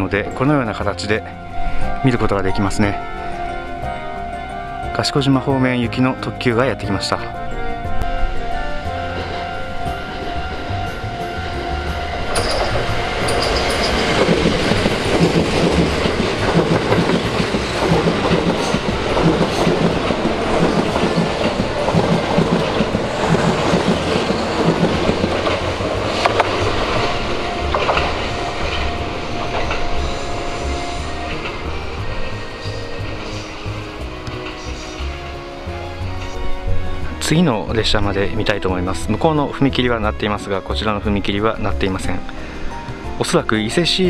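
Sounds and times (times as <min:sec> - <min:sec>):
electric train passing: 0:00.0 - 0:44.0.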